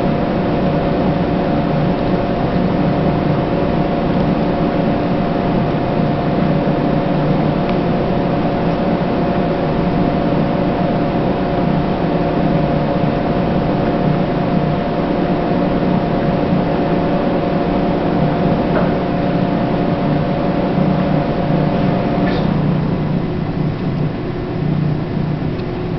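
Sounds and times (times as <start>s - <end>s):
mechanical hum with whine: 0.0s - 25.9s.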